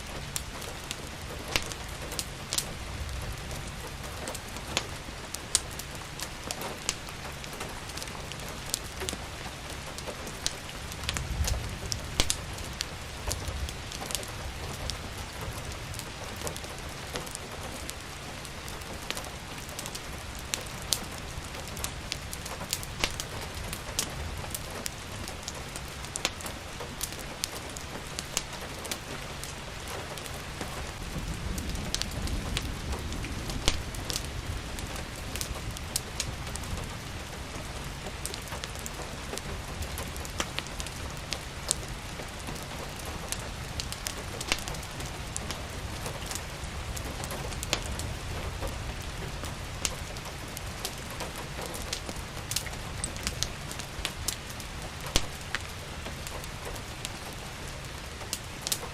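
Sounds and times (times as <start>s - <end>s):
rain hiss: 0.0s - 58.9s
wood fire crackling and popping: 0.0s - 58.9s.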